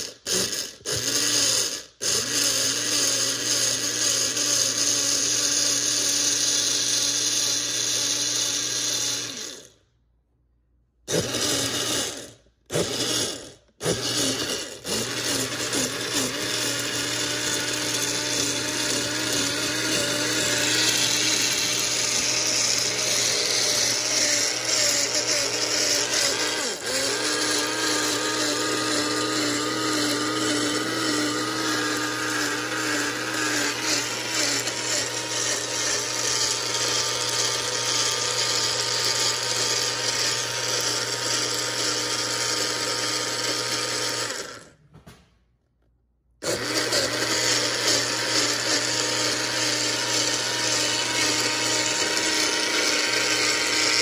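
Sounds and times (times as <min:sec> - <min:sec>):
blender motor running: 0:00.0 - 0:10.0, 0:11.0 - 0:44.8, 0:46.4 - 0:54.0.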